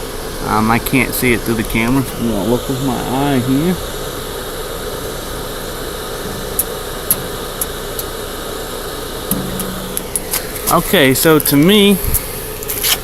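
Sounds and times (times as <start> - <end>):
mechanical background hum: 0.0 - 13.0.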